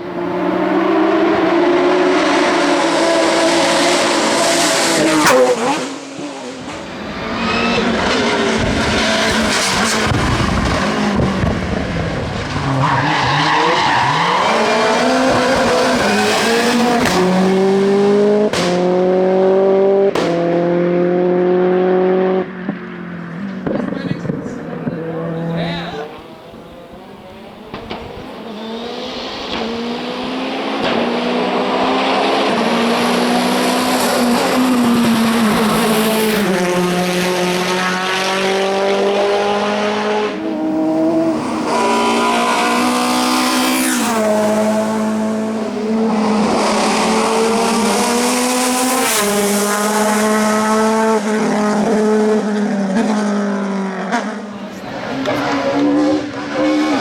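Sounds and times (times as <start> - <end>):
race car engine at high revs: 0.0 - 57.0.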